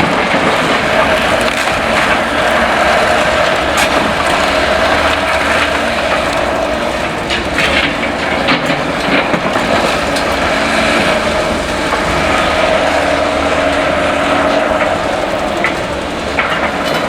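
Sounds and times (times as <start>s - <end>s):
debris clattering and cracking: 0.0s - 17.0s
excavator machinery running: 0.0s - 17.0s.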